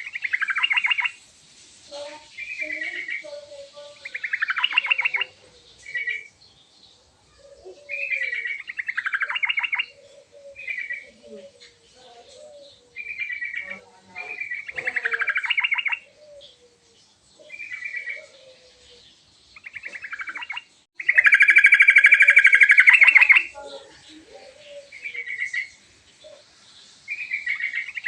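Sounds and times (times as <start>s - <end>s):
bird singing chattering notes: 0.0s - 1.2s, 2.2s - 6.8s, 7.6s - 28.0s
faint lower bird calls: 2.2s - 6.4s, 7.0s - 28.0s.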